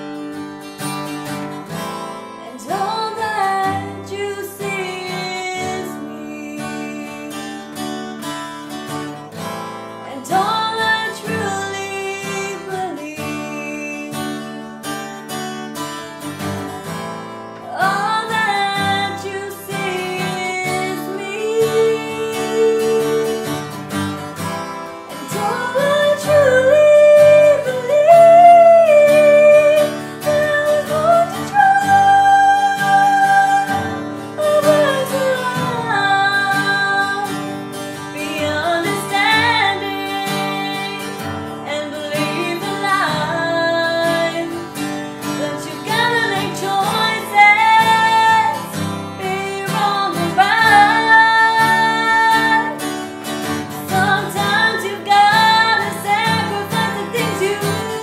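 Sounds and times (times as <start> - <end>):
acoustic guitar: 0.0 - 58.0
woman singing: 2.4 - 9.1, 9.9 - 15.3, 17.6 - 58.0.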